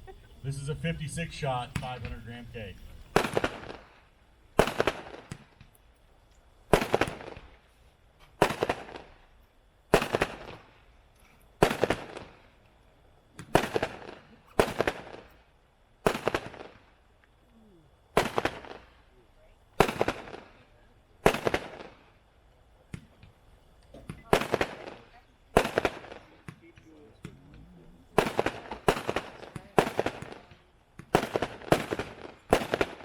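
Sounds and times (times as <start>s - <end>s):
fireworks bangs with crackling pops: 0.8s - 33.0s.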